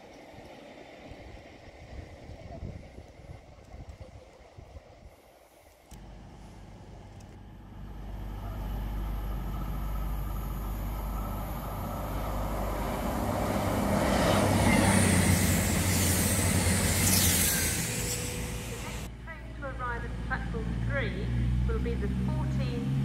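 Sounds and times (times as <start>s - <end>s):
train diesel engines humming: 0.0s - 23.0s
wheels rumbling on rails: 0.0s - 23.0s.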